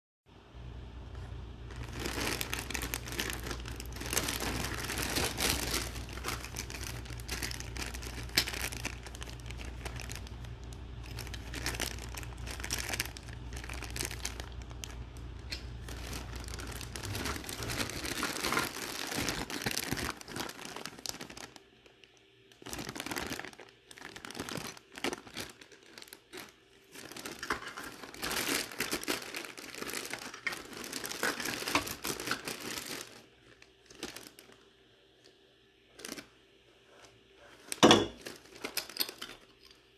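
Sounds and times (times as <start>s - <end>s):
plastic bag crinkling: 0.6s - 39.9s.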